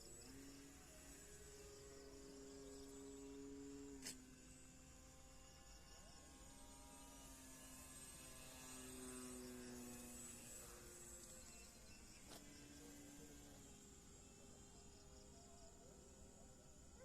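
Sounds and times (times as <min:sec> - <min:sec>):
model airplane motor humming: 0:00.0 - 0:15.4.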